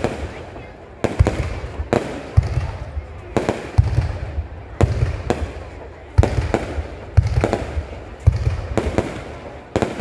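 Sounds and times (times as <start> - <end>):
fireworks booming: 0.0 - 10.0.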